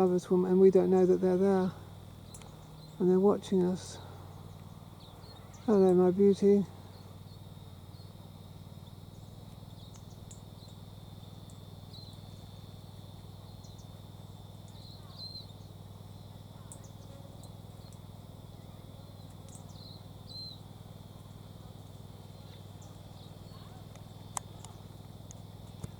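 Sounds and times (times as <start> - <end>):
soft outdoor background: 0.0 - 25.9
steady low hum: 0.0 - 25.9
faint bird chirps: 2.2 - 25.0.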